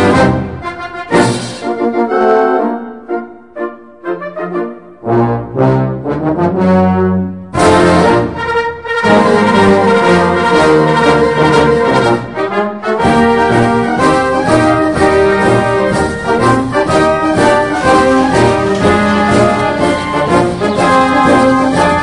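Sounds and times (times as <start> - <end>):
brass instrumental music: 0.0 - 22.0.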